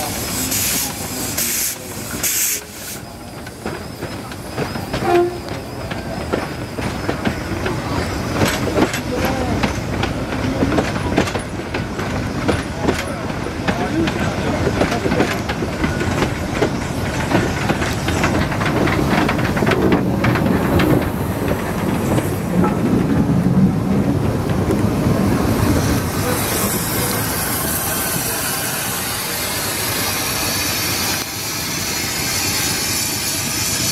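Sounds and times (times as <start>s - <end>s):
steam hissing: 0.0s - 23.2s, 24.4s - 33.9s
train wheels clicking over rail joints: 0.0s - 33.9s.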